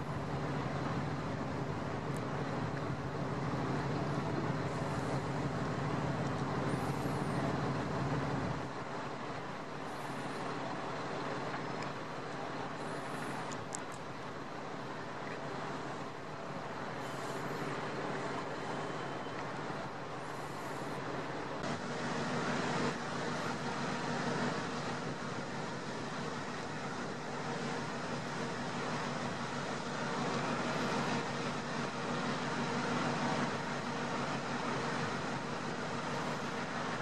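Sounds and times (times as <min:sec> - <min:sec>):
low engine drone: 0:00.0 - 0:37.0
steady traffic hum: 0:00.0 - 0:37.0.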